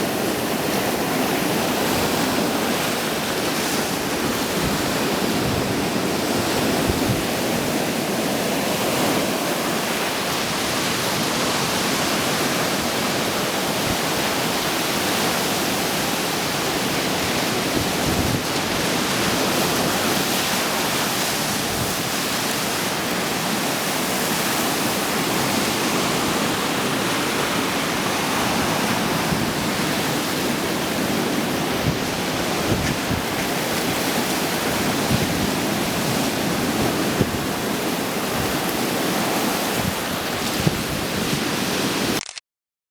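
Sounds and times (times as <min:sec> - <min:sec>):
stormy surf breaking waves: 0:00.0 - 0:42.2.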